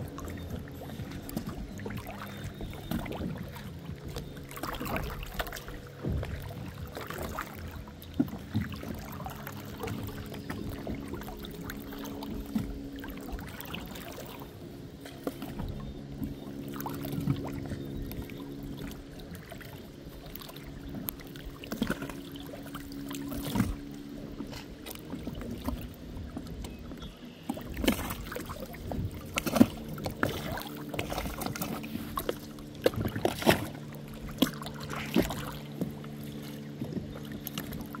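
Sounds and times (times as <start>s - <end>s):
motor drone: 0.0s - 38.0s
water splashing against boat hull: 0.0s - 38.0s.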